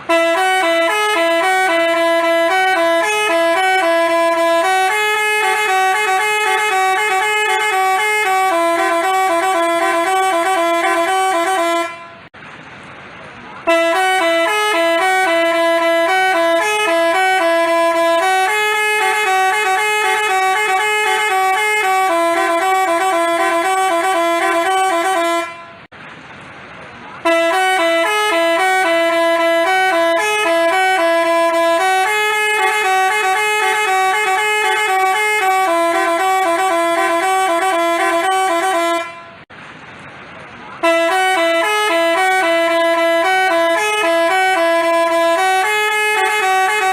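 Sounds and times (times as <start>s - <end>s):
multi-tone horn playing tune: 0.0s - 12.3s, 13.6s - 25.9s, 27.2s - 39.5s, 40.8s - 46.9s.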